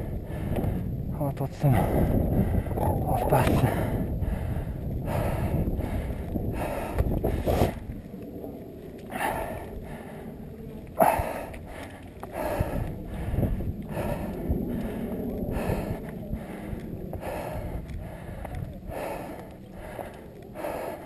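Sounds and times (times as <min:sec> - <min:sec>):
person breathing hard: 0:00.0 - 0:01.0, 0:01.8 - 0:08.0, 0:09.1 - 0:21.0
wind rumble on microphone: 0:00.0 - 0:21.0.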